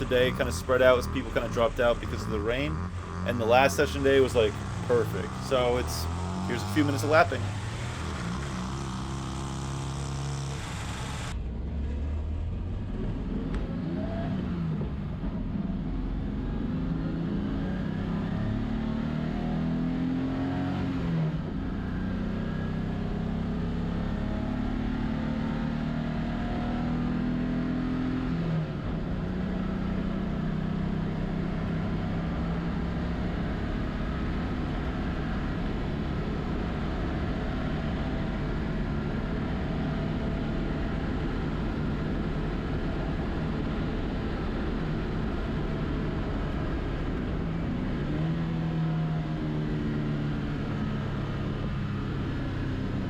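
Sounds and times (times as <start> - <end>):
car engine pulling hard: 0.0 - 53.0.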